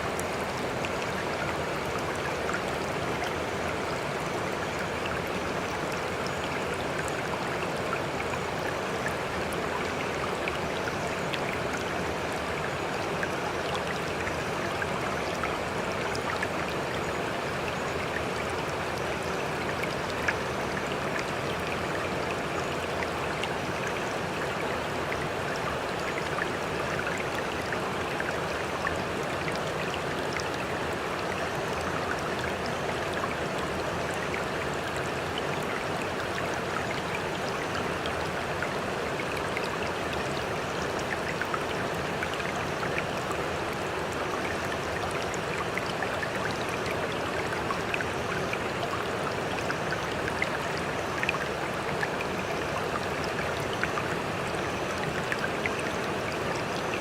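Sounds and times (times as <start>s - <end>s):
sea water lapping and trickling: 0.0s - 57.0s
small drip-like ticks: 0.0s - 57.0s.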